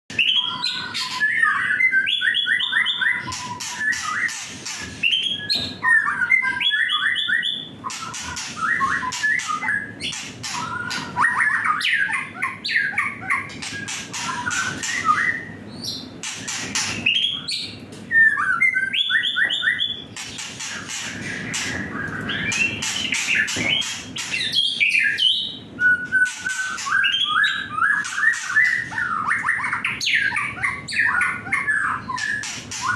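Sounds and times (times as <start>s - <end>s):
bird whistling and chattering: 0.2s - 32.9s.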